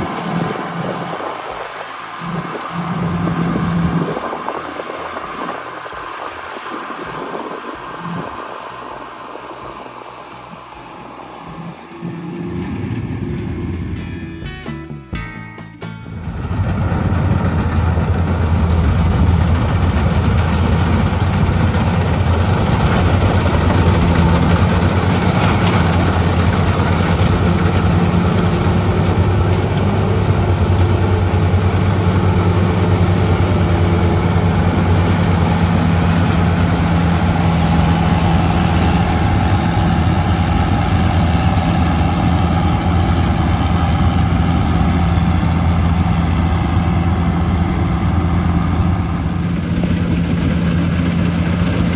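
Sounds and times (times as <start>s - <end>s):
combine harvester engine humming: 0.0s - 51.9s.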